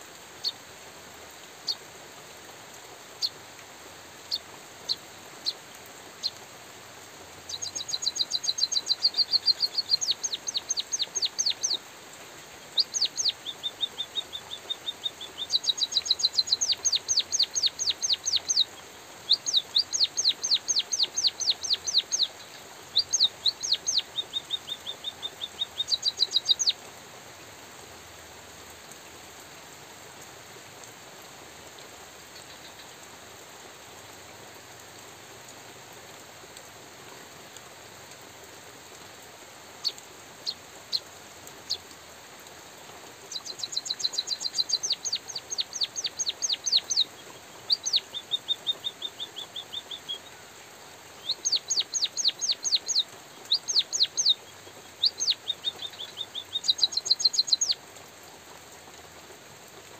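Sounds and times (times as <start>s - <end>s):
light drizzle hiss: 0.0s - 59.9s.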